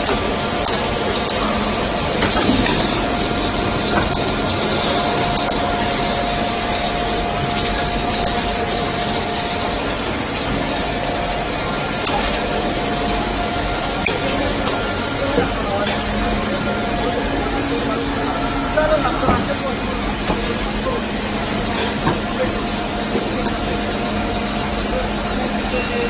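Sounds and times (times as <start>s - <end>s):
machinery running: 0.0s - 26.0s.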